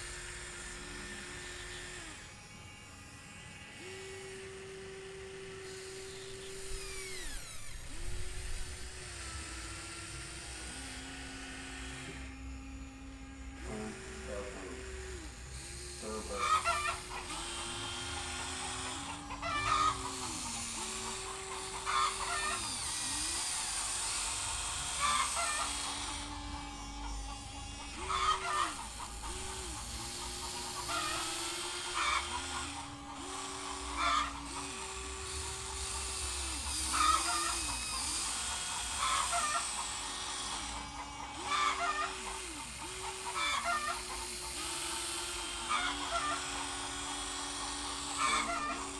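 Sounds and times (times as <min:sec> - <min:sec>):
electric motors whining: 0:00.0 - 0:48.9.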